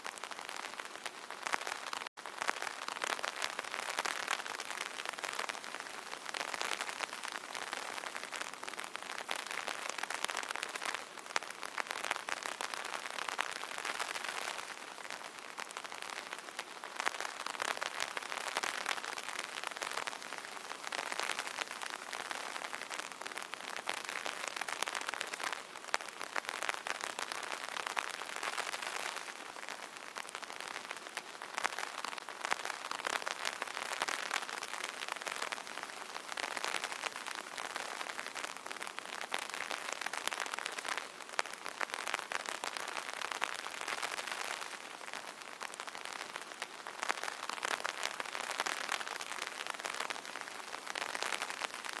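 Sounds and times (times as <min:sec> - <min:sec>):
rain pattering on umbrella: 0:00.0 - 0:52.0.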